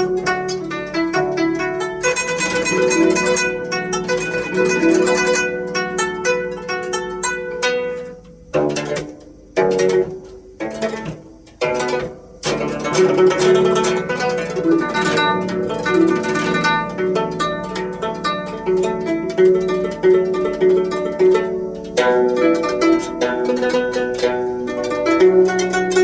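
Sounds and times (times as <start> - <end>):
zither plucked notes: 0.0 - 26.0.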